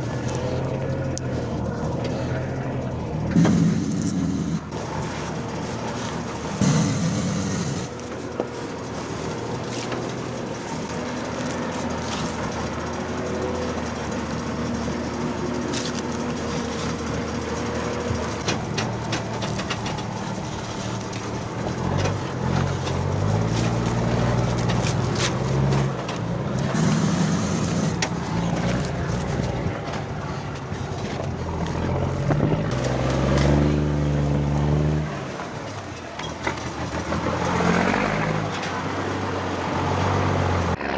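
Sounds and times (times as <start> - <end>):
rattles: 0.0 - 34.6
truck engine revving: 0.0 - 40.9.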